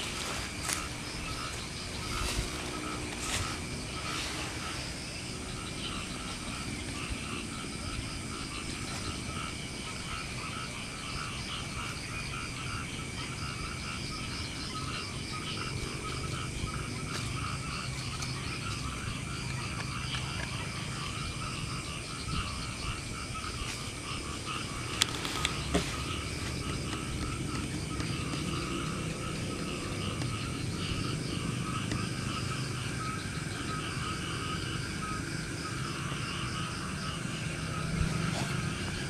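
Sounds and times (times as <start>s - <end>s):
chorus of frogs calling: 0.0s - 39.0s.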